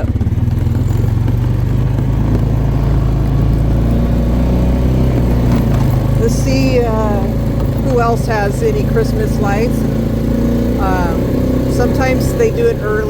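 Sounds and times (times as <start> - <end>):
small engine pulling away: 0.0 - 13.0.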